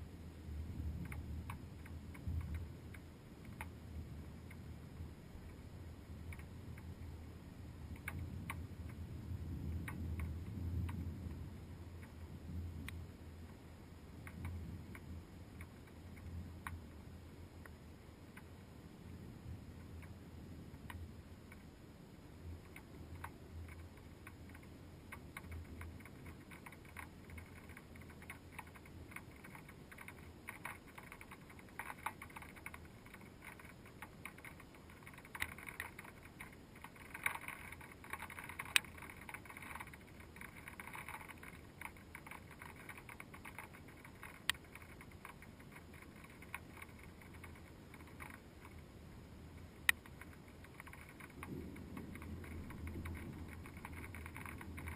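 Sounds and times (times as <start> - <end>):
raindrops ticking on plastic housing: 0.0 - 18.5, 22.4 - 54.9.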